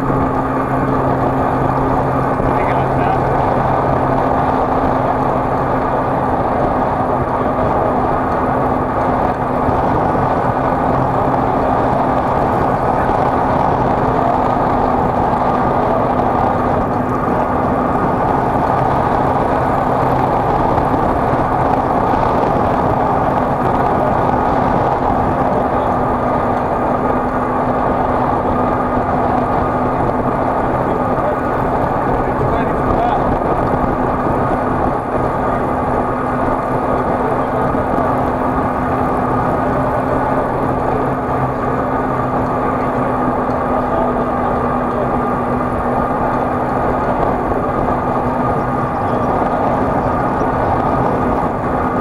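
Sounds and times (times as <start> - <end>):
road and wind noise: 0.0 - 52.0
vehicle engine hum: 0.0 - 52.0.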